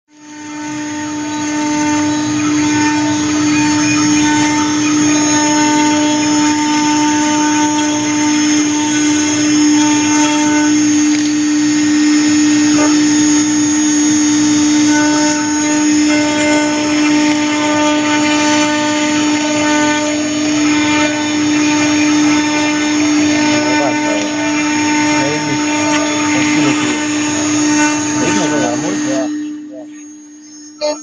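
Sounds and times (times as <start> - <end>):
milling machine whine and cutting: 0.1 - 31.0.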